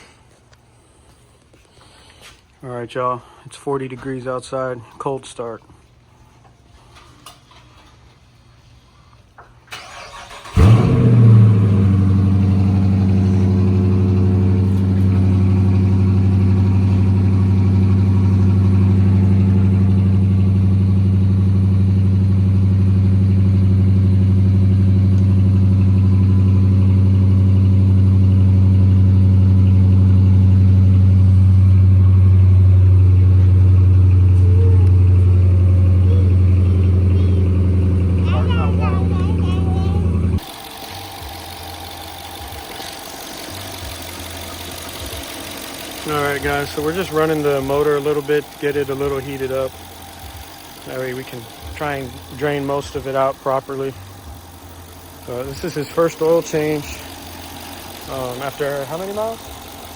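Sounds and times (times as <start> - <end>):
car engine revving and idling: 9.7 - 59.9
engine cranking: 9.7 - 59.9.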